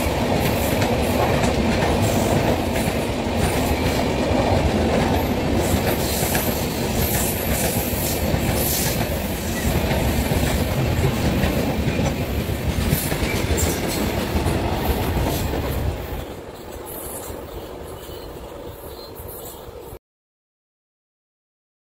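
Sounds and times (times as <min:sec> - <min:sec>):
passenger train rumbling past: 0:00.0 - 0:20.0.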